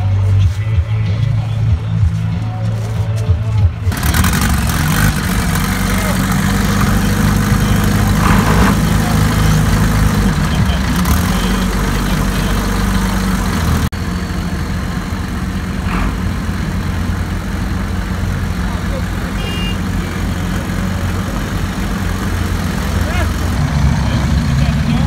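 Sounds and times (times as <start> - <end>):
tractor engines idling: 0.0 - 25.0.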